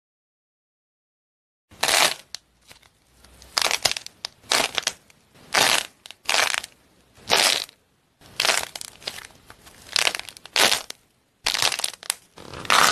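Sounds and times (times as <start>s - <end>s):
clay squishies crackling: 1.8s - 12.9s.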